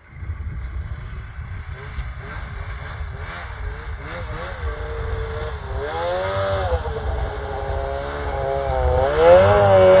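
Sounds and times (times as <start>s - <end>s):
snowmobile engine revving: 0.6s - 10.0s.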